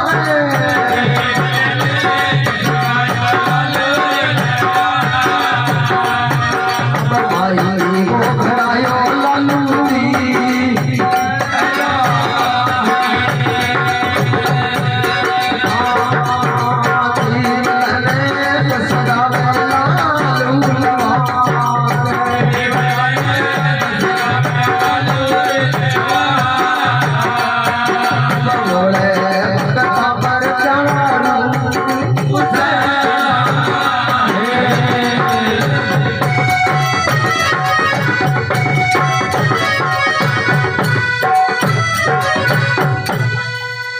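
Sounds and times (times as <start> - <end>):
hand drum rhythm: 0.0 - 43.9
rattling percussion: 0.0 - 43.9.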